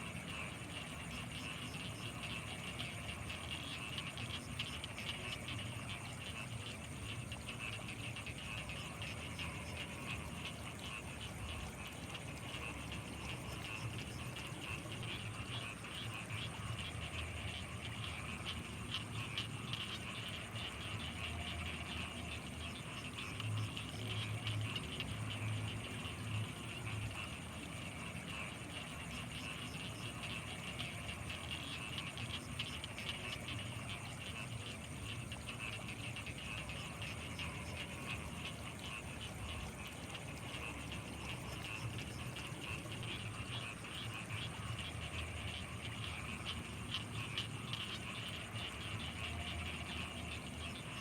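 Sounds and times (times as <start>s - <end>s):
frogs and insects trilling: 0.0s - 51.0s
low pulsing frog calls: 0.0s - 51.0s.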